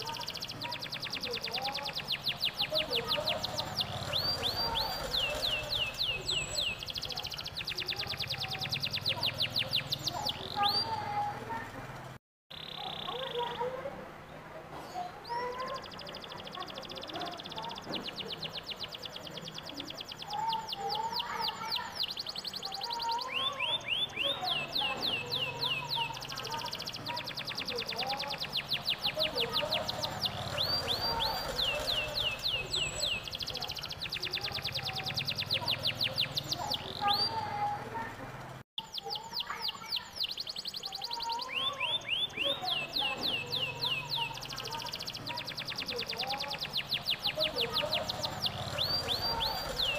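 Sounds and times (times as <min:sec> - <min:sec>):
canary singing trill: 0:00.0 - 0:13.9, 0:14.8 - 0:49.9.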